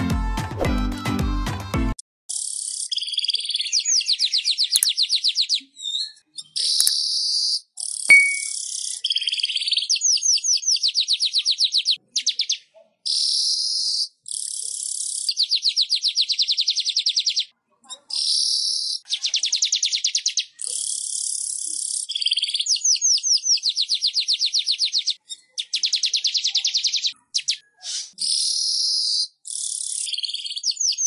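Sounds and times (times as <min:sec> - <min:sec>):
weaver bird song: 0:02.3 - 0:31.0.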